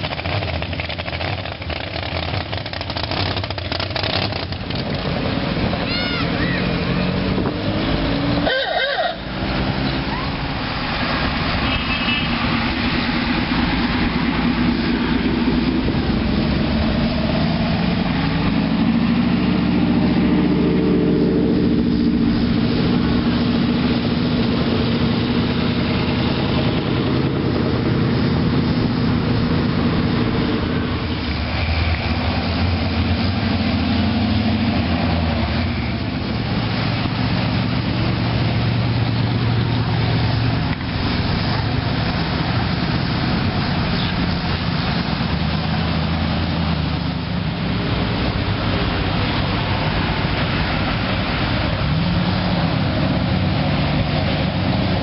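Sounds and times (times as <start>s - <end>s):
vehicle engines idling: 0.0s - 55.0s.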